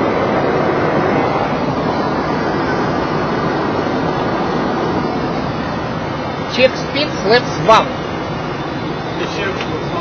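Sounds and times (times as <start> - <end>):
airplane cockpit roar: 0.0 - 10.0.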